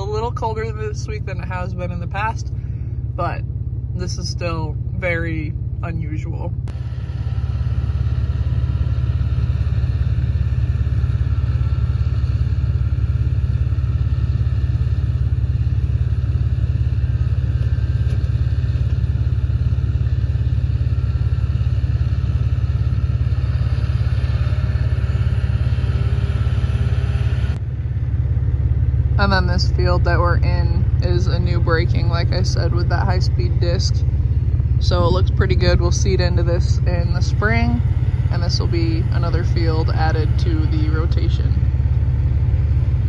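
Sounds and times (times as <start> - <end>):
tractor engine rumbling: 0.0 - 43.0.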